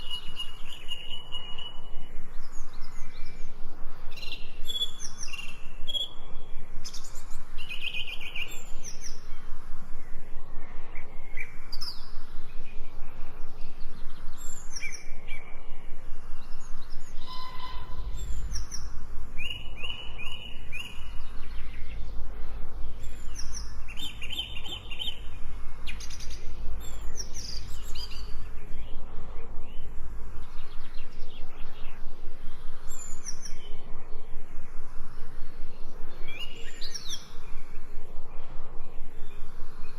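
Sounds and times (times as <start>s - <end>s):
birds chirping and trilling: 0.0s - 39.9s
faint steady hiss: 0.0s - 39.9s.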